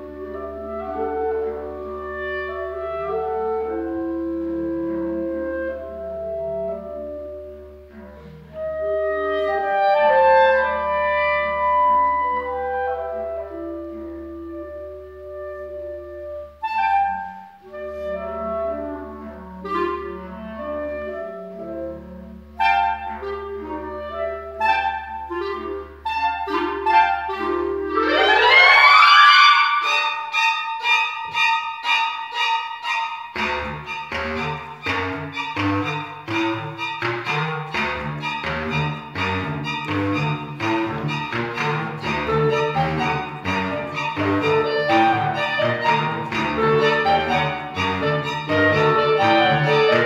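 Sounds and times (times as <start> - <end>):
clarinets playing: 0.0 - 50.0
string quartet playing: 0.0 - 50.0.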